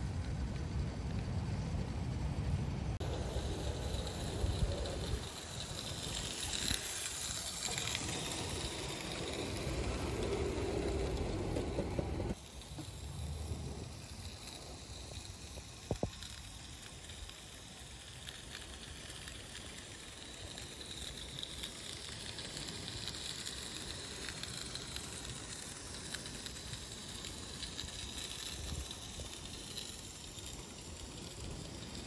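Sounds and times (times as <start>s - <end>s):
model steam locomotive hissing: 0.0s - 32.0s.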